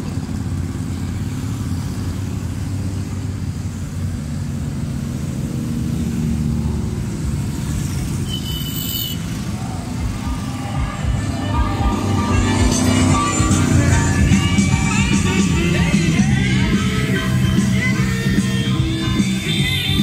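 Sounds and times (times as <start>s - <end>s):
motorcycles riding past: 0.0s - 20.0s.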